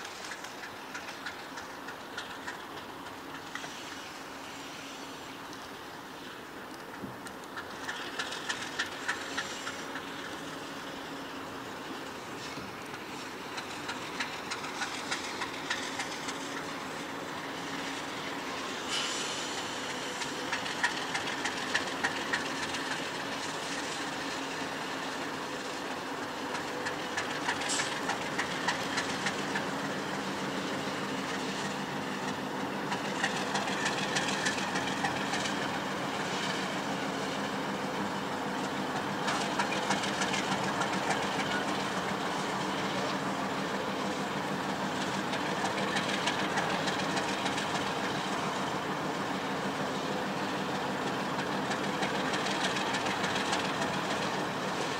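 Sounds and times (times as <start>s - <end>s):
diesel locomotive engine drone: 0.0s - 54.9s
wheels clicking over rail joints: 0.0s - 54.9s.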